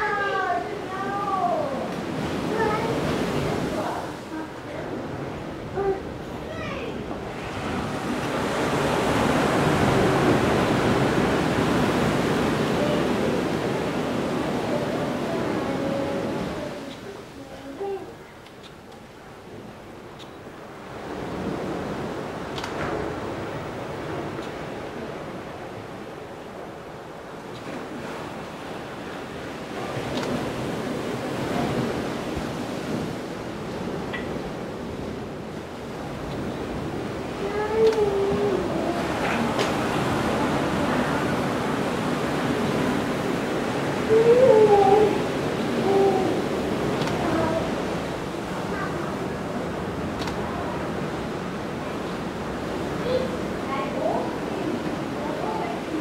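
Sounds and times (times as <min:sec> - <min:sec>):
wind on microphone: 0:00.0 - 0:18.2, 0:20.8 - 0:56.0
ocean surf breaking: 0:00.0 - 0:56.0.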